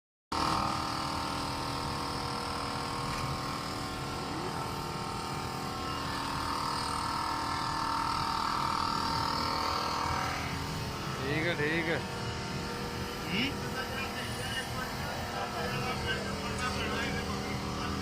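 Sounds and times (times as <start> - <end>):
air compressor running: 0.3 - 18.0.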